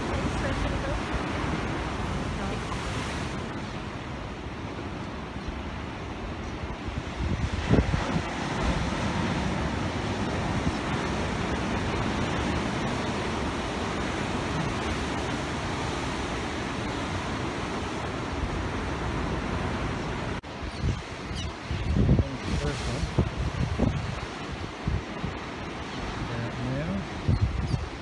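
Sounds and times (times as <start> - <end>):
heavy surf breaking: 0.0 - 27.3
wind buffeting microphone: 0.0 - 28.0.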